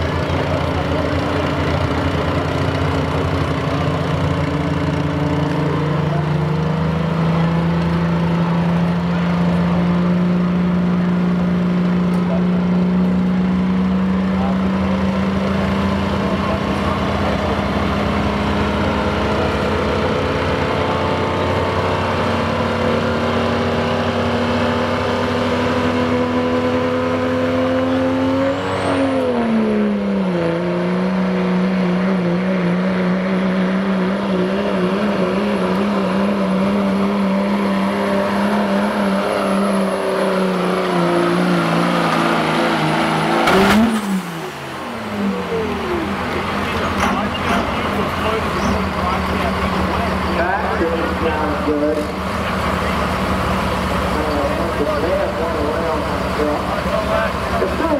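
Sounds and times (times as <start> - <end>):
diesel engine revving high: 0.0 - 57.9.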